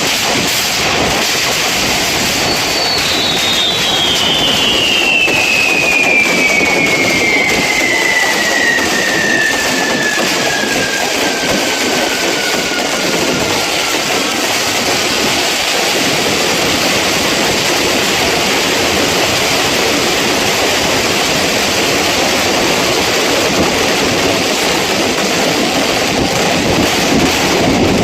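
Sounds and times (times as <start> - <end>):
firecrackers crackling: 0.0 - 28.0.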